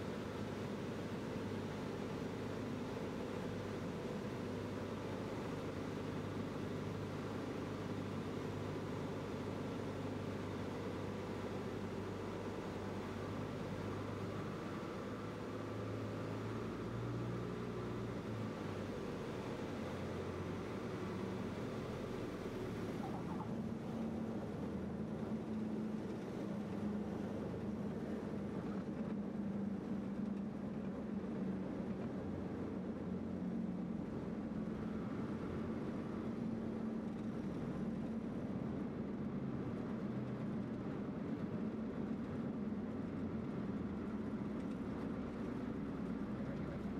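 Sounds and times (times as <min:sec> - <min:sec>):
propeller airplane engine droning: 0:00.0 - 0:46.9.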